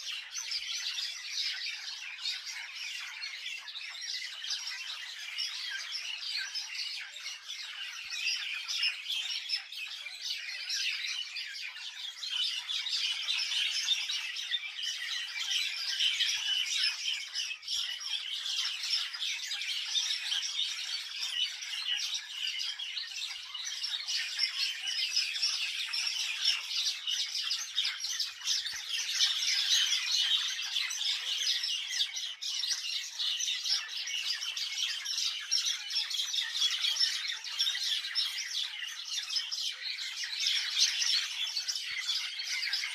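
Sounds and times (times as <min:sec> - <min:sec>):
flock of birds chirping: 0:00.0 - 0:42.9.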